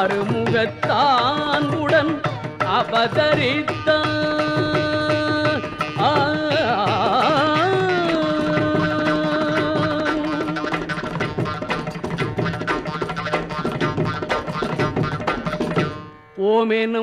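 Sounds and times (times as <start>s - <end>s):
drum percussion: 0.0s - 16.2s.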